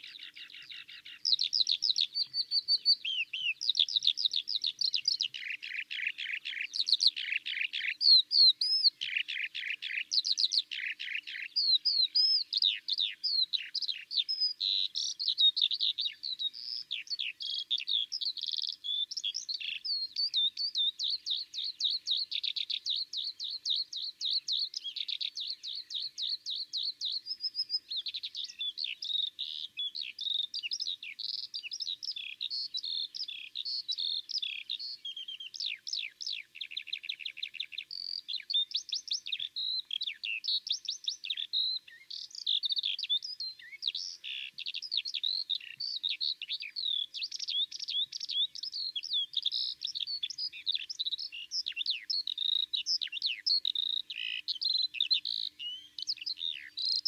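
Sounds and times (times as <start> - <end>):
skylark singing: 0.0 - 57.0.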